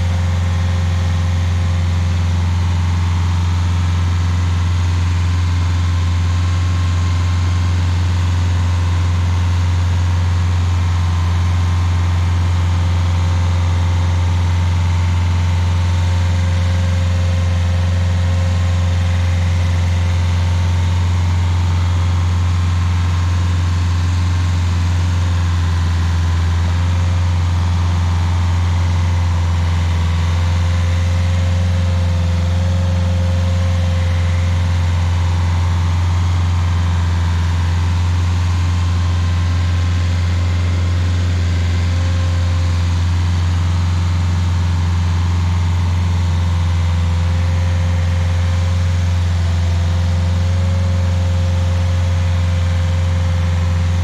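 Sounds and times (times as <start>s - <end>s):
stump grinder engine running: 0.0s - 54.0s.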